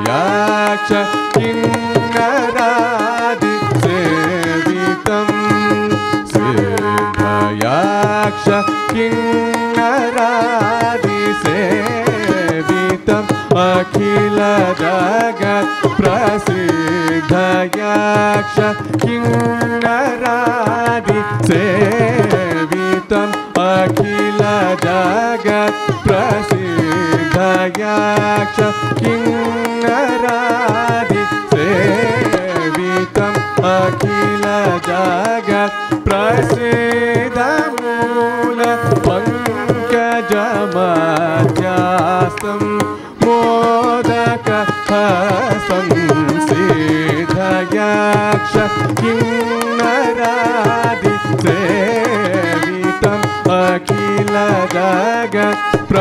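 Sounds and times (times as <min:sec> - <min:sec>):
man singing: 0:00.0 - 0:56.0
violin: 0:00.0 - 0:56.0.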